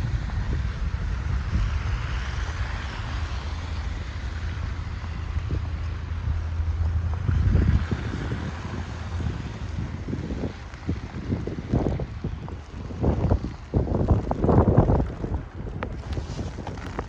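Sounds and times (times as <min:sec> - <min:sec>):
hiss of wind-driven snow: 0:00.0 - 0:17.0
wind buffeting microphone: 0:00.0 - 0:17.0.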